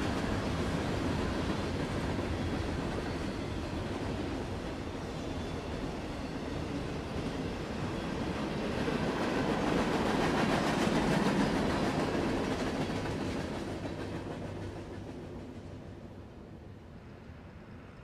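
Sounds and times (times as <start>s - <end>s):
train wheels clattering on rails: 0.0s - 16.2s.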